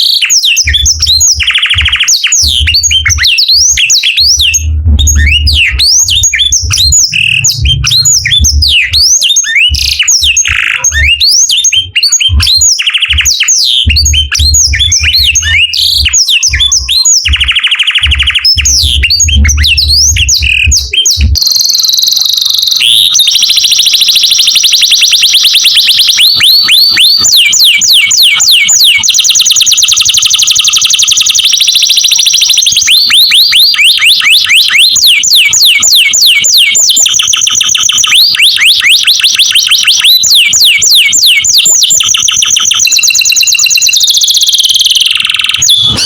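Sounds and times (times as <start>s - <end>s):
canary singing trills: 0.0s - 46.0s.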